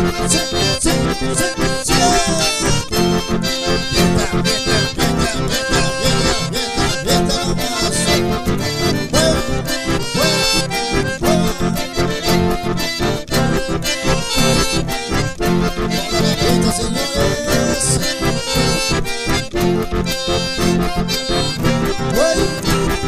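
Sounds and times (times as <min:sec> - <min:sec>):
accordions playing dance music: 0:00.0 - 0:23.0
strummed acoustic guitar: 0:00.0 - 0:23.0.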